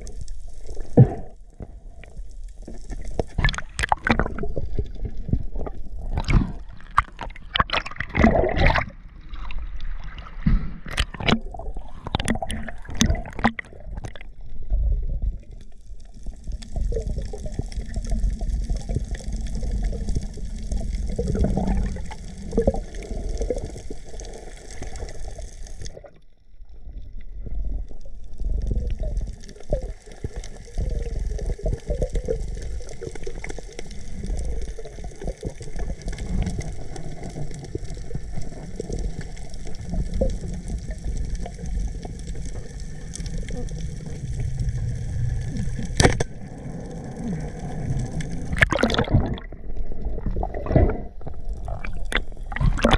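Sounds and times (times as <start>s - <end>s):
water sloshing and gurgling: 0.0s - 52.9s.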